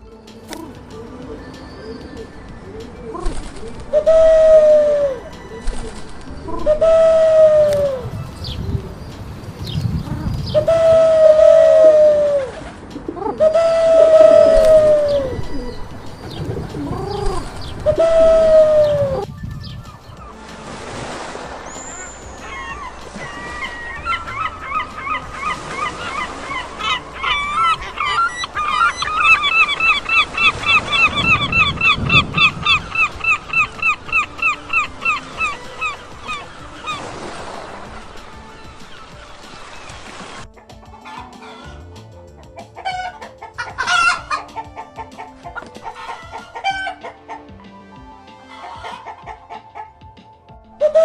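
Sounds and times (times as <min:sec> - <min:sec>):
background music: 0:00.0 - 0:51.0
chickens clucking: 0:00.3 - 0:20.4, 0:22.0 - 0:47.8, 0:48.4 - 0:50.2
geese honking: 0:00.6 - 0:09.0, 0:10.0 - 0:41.9, 0:42.6 - 0:50.0.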